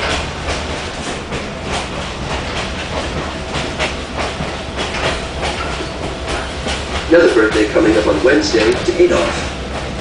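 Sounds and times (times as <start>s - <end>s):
train rumbling on track: 0.0s - 10.0s
wheels clicking over rail joints: 0.0s - 10.0s.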